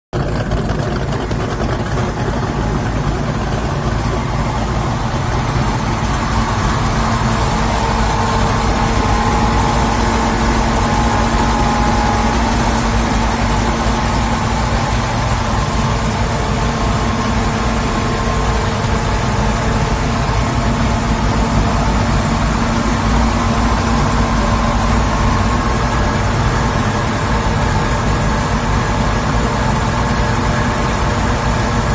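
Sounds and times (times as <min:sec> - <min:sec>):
boat engine idling: 0:00.1 - 0:31.9.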